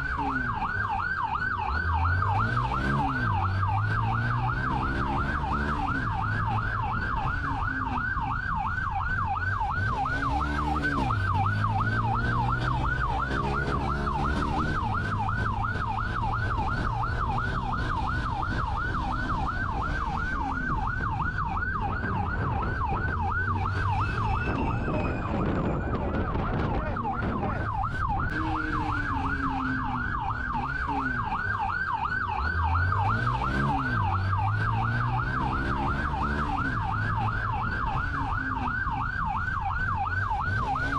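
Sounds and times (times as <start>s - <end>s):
patrol car engine: 0.0s - 40.9s
police siren yelping: 0.0s - 40.9s.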